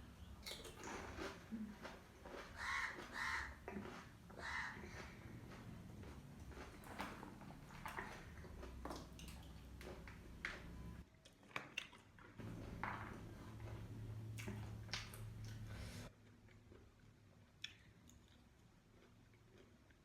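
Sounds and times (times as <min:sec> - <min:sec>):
person chewing: 0:00.4 - 0:20.0.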